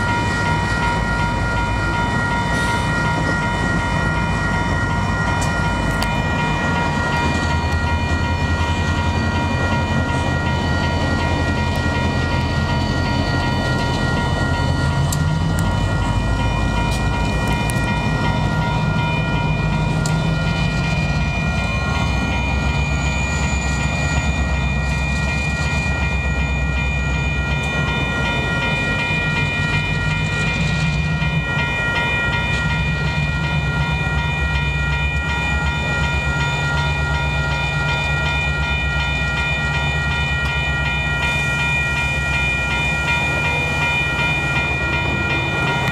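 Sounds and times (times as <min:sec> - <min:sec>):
diesel locomotives running: 0:00.0 - 0:45.9
electronic crossing bell ringing: 0:00.0 - 0:45.9.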